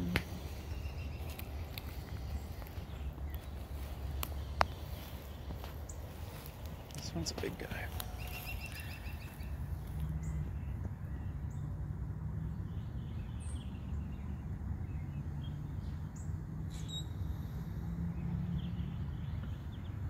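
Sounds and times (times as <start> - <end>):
low outdoor rumble: 0.0 - 20.0
small birds chirping: 0.0 - 20.0.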